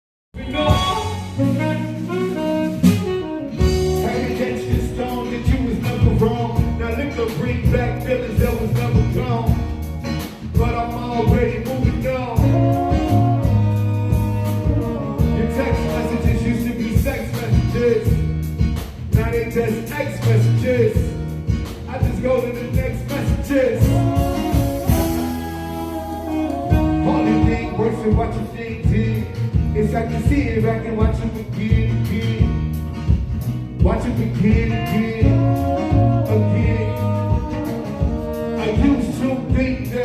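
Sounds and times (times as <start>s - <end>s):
person singing: 0.4s - 2.7s, 3.5s - 9.5s, 10.6s - 18.2s, 21.9s - 32.4s, 33.8s - 40.0s
live band playing: 0.4s - 40.0s.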